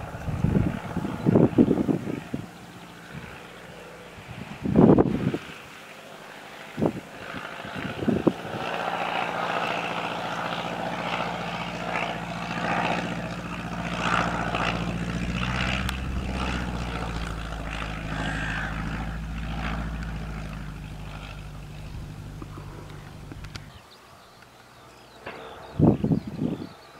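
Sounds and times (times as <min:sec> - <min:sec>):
propeller aircraft engine droning: 0:00.0 - 0:26.6.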